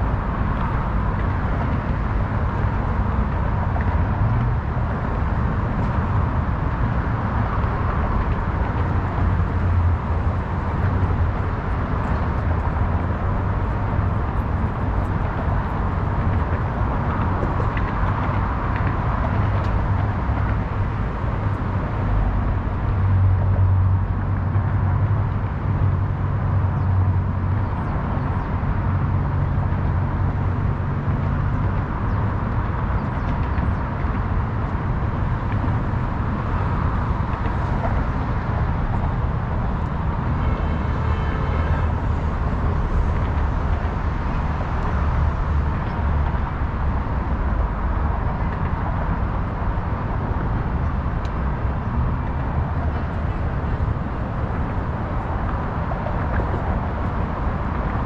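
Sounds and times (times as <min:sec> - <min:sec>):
highway traffic rumble: 0:00.0 - 0:58.0.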